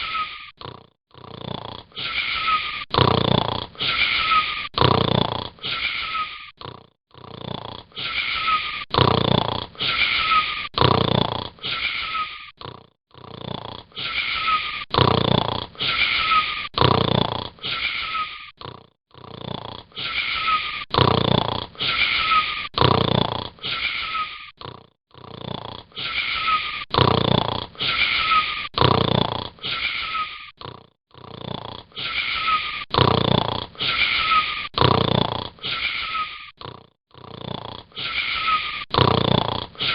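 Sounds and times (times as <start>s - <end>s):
wheezy whistling snores: 0.0s - 39.9s.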